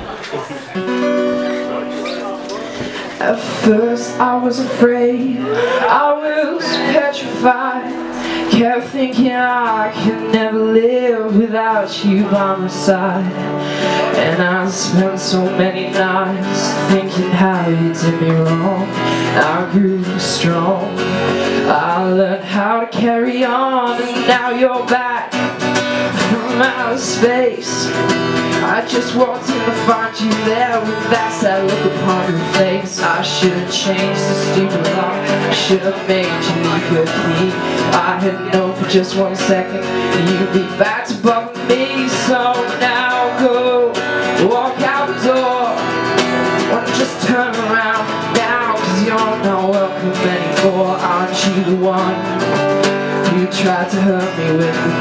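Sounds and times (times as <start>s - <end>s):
acoustic guitar strumming: 0.0s - 55.0s
woman singing: 3.0s - 55.0s.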